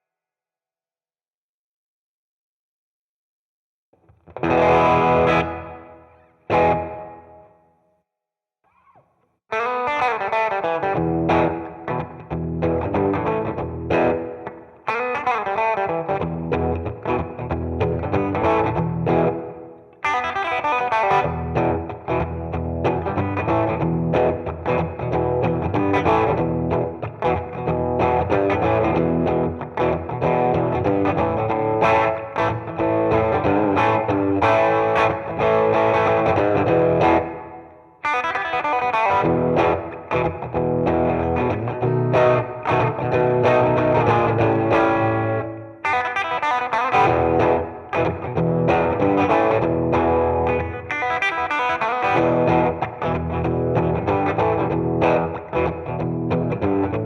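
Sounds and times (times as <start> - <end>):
distorted electric guitar riffing: 4.3 - 7.4, 9.6 - 57.0.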